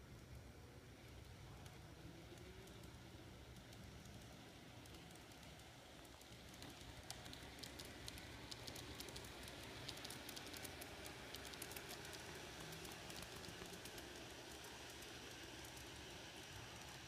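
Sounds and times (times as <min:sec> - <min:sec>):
model train wheels clicking on track: 0:01.0 - 0:17.0.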